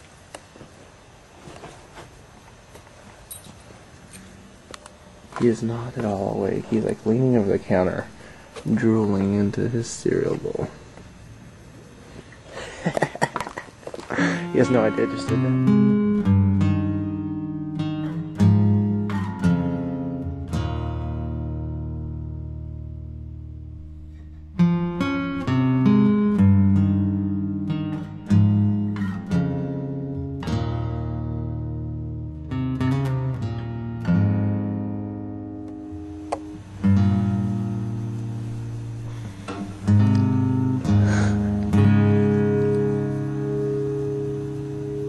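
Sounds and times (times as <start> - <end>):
acoustic guitar chord strummed: 5.3 - 11.4, 12.6 - 45.0.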